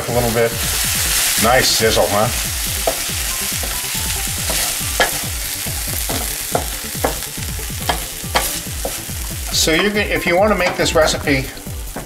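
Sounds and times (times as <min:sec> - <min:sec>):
spatula scraping a pan: 0:00.0 - 0:10.8
beans sizzling in a frying pan: 0:00.0 - 0:12.0.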